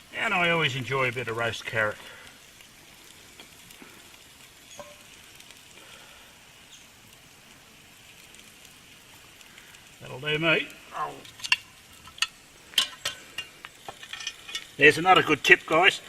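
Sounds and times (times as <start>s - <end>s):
fat sizzling: 0.0s - 16.0s
light crackles and ticks: 0.0s - 16.0s.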